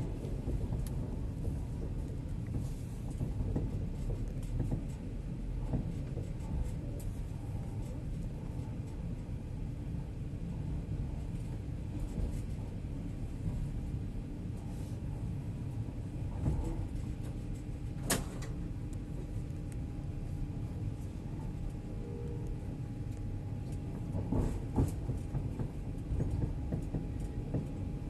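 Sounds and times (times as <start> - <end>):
train carriage rumbling: 0.0 - 28.0.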